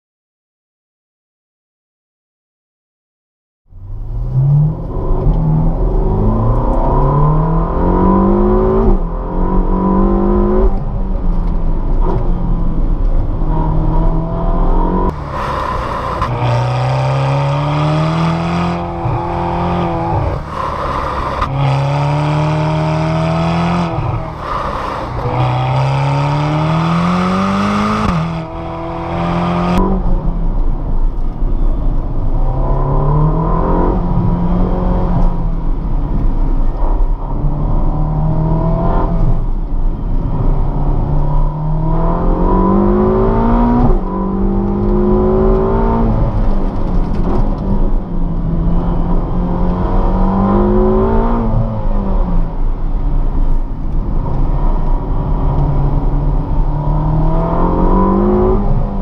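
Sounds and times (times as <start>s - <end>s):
sports car accelerating hard: 4.0s - 30.9s, 31.6s - 59.0s.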